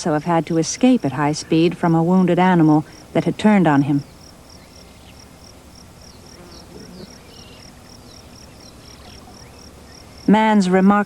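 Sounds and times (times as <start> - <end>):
insect chirping pulses: 0.8 - 10.5.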